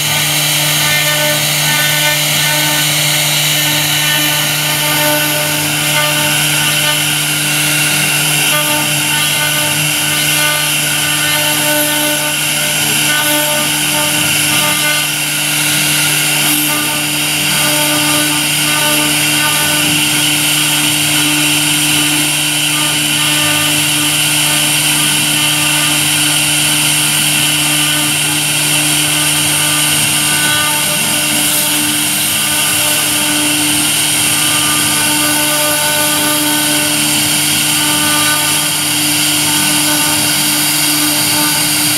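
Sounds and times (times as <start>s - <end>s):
bit cutting wood hiss: 0.0s - 41.9s
router spindle whine: 0.0s - 41.9s.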